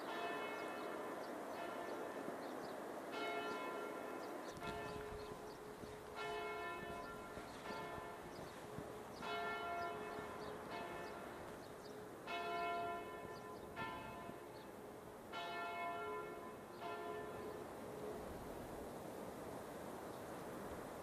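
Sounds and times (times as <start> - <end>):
faint church bells ringing: 0.0 - 18.9.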